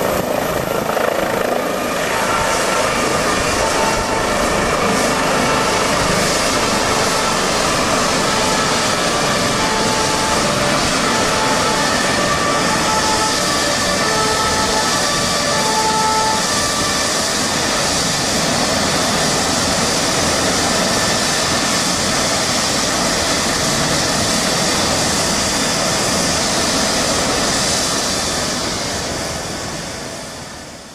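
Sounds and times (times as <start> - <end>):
helicopter turbines and rotor: 0.0 - 30.9.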